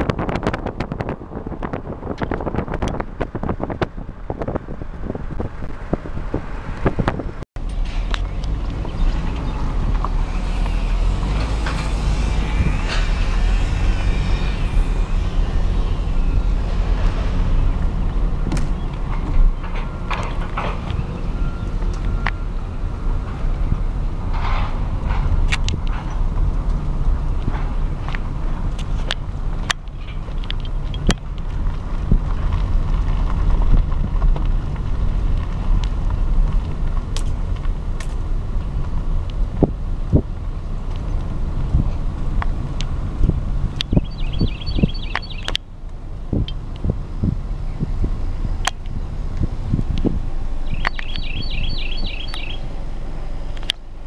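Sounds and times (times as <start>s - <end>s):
car road noise rumble: 0.0s - 54.0s
road noise hiss: 0.0s - 54.0s
wind buffeting microphone: 0.0s - 54.0s.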